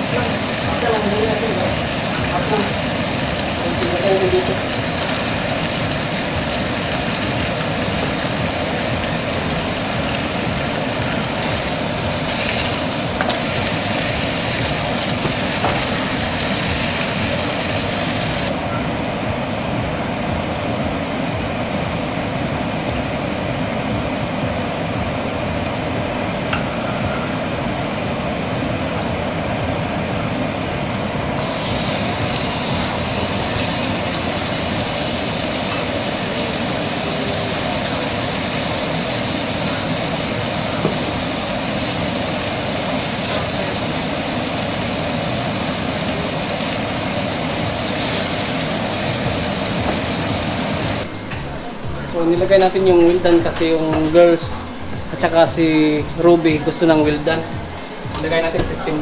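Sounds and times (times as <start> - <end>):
meat sizzling in a pan: 0.0 - 30.7, 31.3 - 59.0
range hood fan drone: 0.0 - 59.0.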